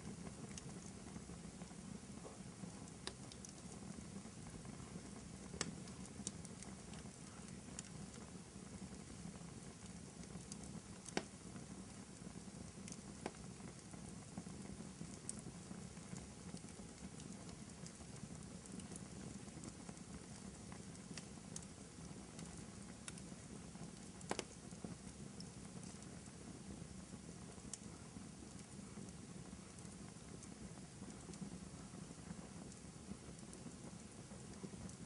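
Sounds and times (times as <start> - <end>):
fireplace crackling: 0.0 - 35.0
wood fire pops and snaps: 0.0 - 35.0.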